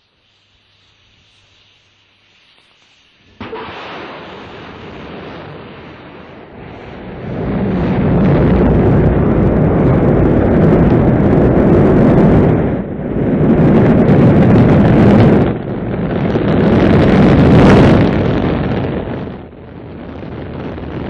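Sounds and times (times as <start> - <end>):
rocket engines roaring: 3.3 - 21.0.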